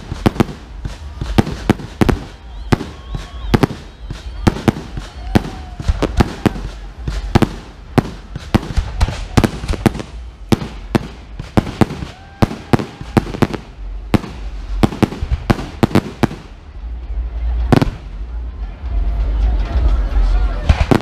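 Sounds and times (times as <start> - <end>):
fireworks bursting: 0.0 - 18.2, 20.6 - 21.0
low rumble: 0.0 - 21.0.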